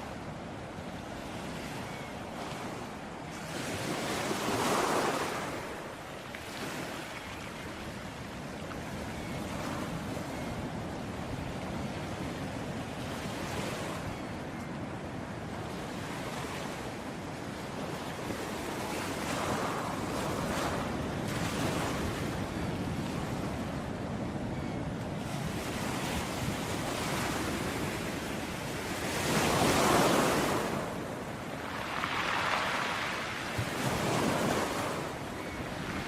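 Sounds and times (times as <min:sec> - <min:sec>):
ocean waves washing onto beach: 0:00.0 - 0:36.0.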